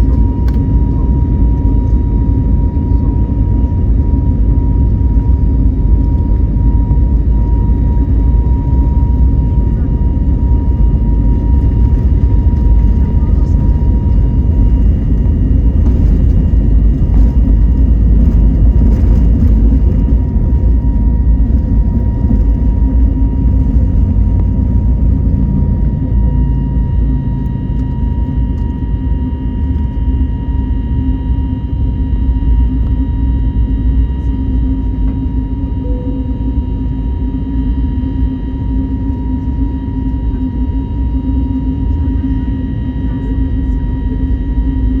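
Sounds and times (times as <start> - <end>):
faint steady whining tones: 0.0 - 45.0
jet engine cabin rumble: 0.0 - 45.0.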